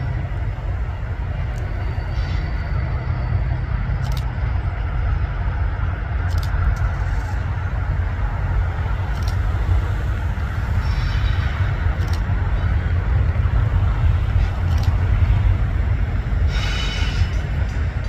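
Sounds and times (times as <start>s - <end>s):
diesel locomotive rumbling: 0.0s - 18.0s.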